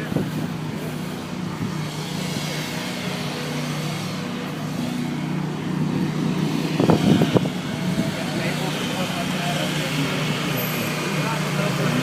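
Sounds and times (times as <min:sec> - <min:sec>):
engine running with low drone: 0:00.0 - 0:12.0
outdoor background noise: 0:00.0 - 0:12.0.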